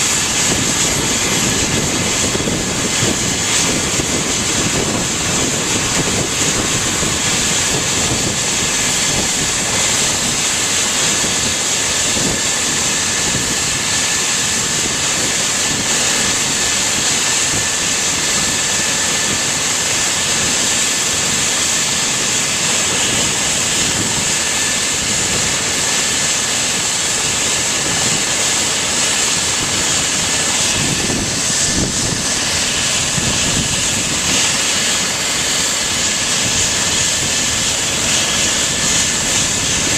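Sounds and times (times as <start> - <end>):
helicopter engine and rotor noise: 0.0 - 39.9
helicopter turbine whine: 0.0 - 39.9.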